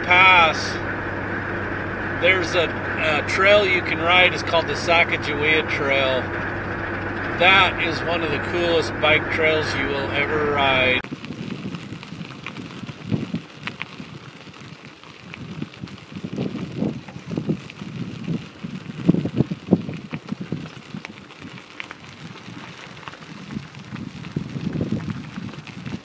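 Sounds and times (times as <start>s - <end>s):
bicycle tyres on gravel: 0.0s - 26.0s.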